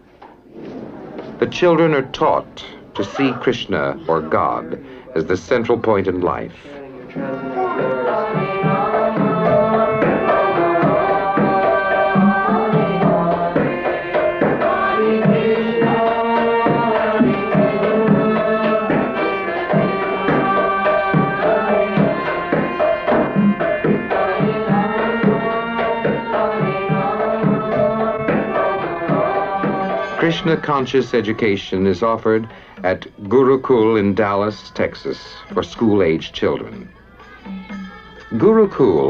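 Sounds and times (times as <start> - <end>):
held melody: 1.4 - 39.0.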